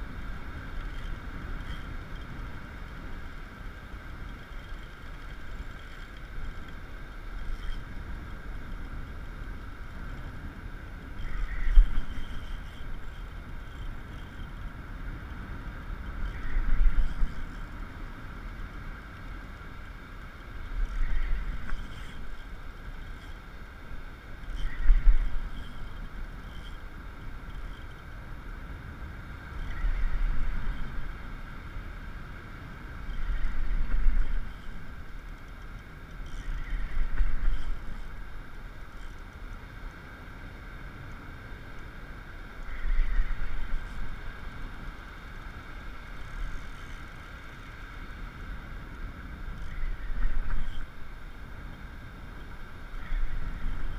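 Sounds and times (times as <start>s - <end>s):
low rumble of waves: 0.0s - 53.9s.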